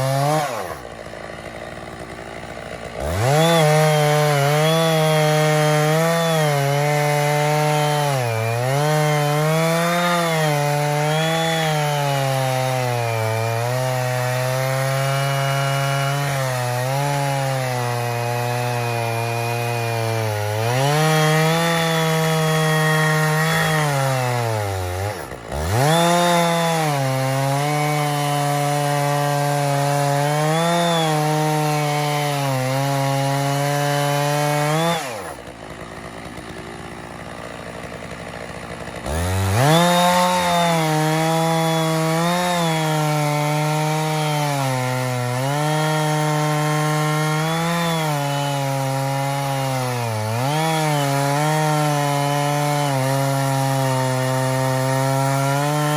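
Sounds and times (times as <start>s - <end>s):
chainsaw cutting through log: 0.0s - 55.9s.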